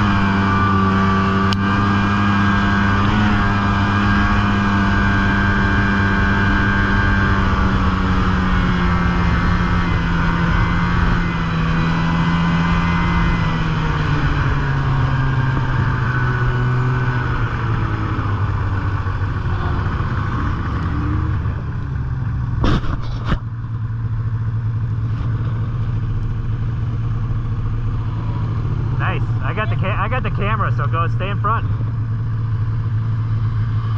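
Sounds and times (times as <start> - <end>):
snowmobile engine running: 0.0 - 33.9.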